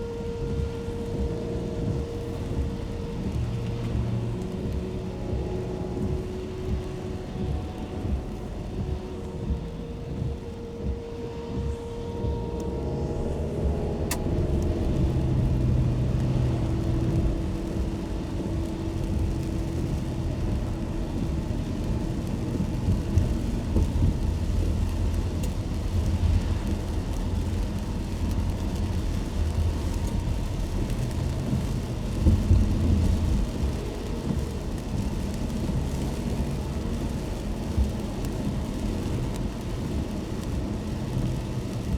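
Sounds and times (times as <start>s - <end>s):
car driving on wet road: 0.0s - 41.9s
rain and spray hiss: 0.0s - 41.9s.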